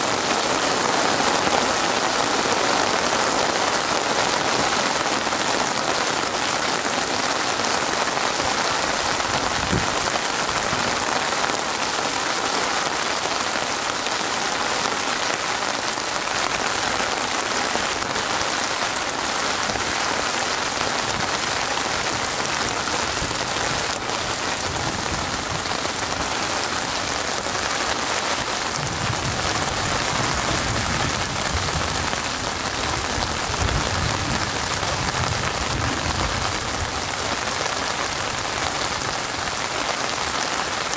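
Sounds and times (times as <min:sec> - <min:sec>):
rain falling on water: 0:00.0 - 0:40.9.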